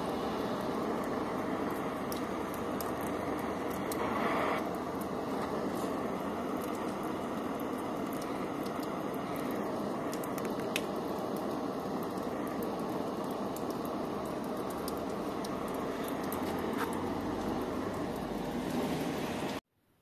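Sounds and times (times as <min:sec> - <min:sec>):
blowtorch flame hissing: 0:00.0 - 0:19.6
faint crackles: 0:01.0 - 0:18.8.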